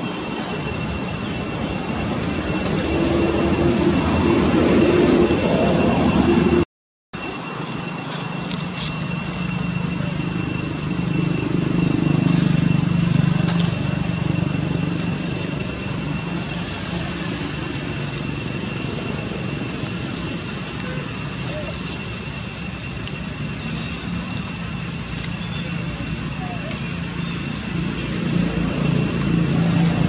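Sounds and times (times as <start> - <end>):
distant engine drone: 0.0 - 6.6, 7.2 - 30.0
thin steady high tones: 0.0 - 6.6, 7.2 - 30.0.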